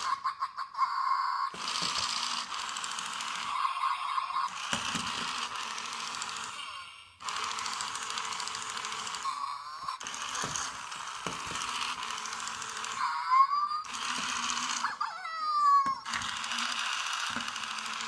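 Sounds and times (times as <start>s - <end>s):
electronic puppy whining tone: 0.0s - 18.0s
toy motor whirring: 0.0s - 18.0s.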